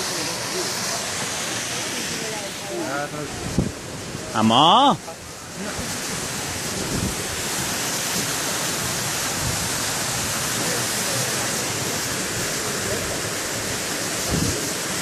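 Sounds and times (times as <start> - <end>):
river rushing through gorge: 0.0 - 15.0.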